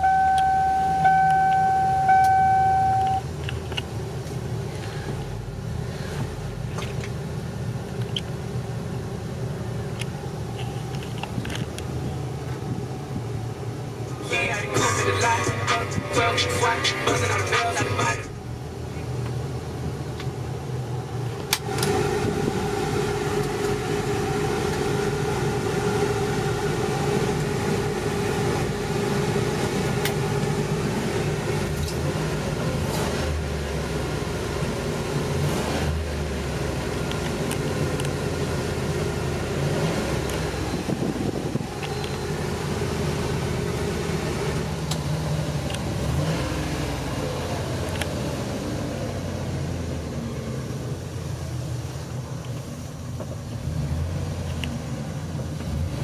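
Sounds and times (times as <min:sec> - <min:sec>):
van engine idling: 0:00.0 - 0:56.0.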